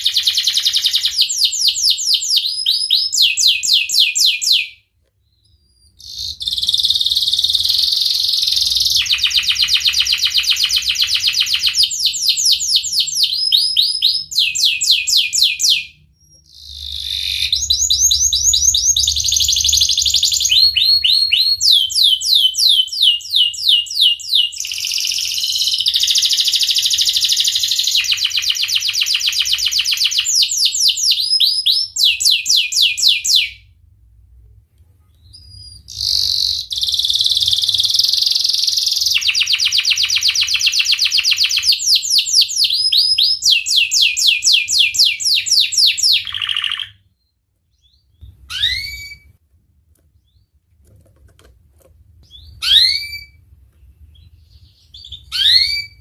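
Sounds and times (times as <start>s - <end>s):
canary singing trills: 0.0s - 33.6s, 35.2s - 49.3s, 52.2s - 56.0s.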